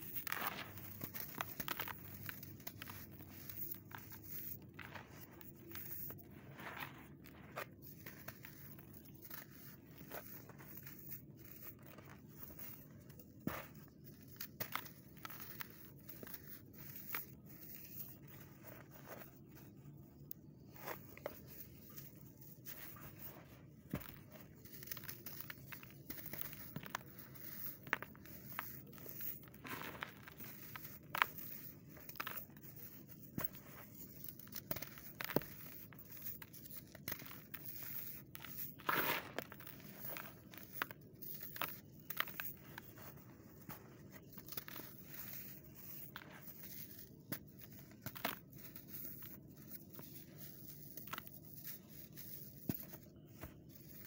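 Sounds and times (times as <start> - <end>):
hands crushing dry sand: 0.0 - 19.8, 20.6 - 54.0.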